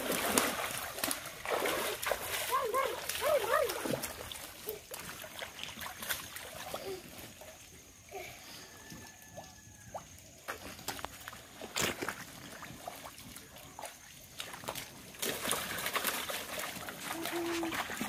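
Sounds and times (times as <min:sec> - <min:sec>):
water splashing: 0:00.0 - 0:07.9, 0:09.9 - 0:18.0
mud and water squelching: 0:00.0 - 0:18.0.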